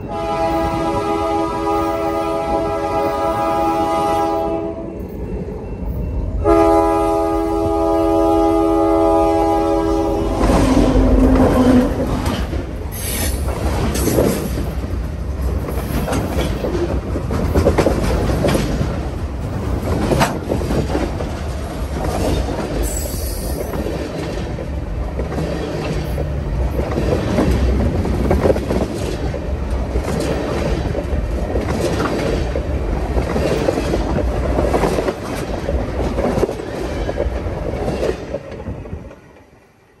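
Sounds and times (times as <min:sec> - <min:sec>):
freight train rumbling over track: 0:00.0 - 0:40.0.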